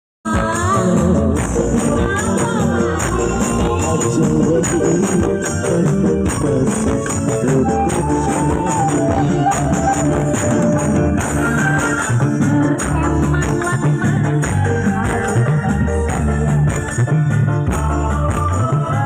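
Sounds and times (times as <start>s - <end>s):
heavy bass line: 0.3s - 19.0s
loud music: 0.3s - 19.0s.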